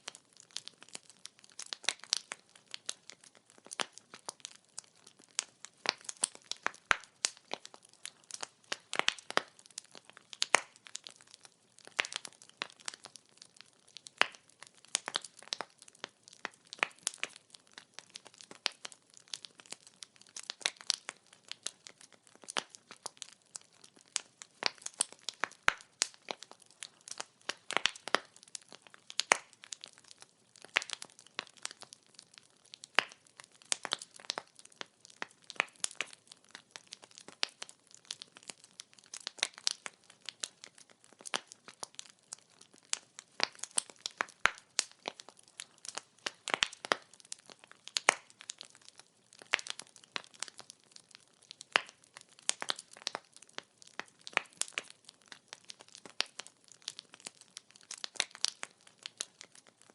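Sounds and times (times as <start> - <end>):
firewood crackling: 0.0 - 59.9.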